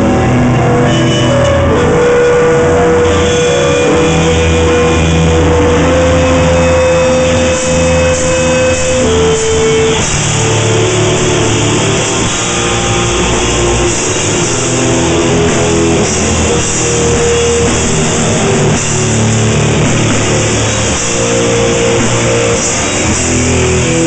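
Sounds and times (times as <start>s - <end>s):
bass: 0.0s - 24.0s
distorted electric guitar: 0.0s - 24.0s
drums: 0.0s - 24.0s.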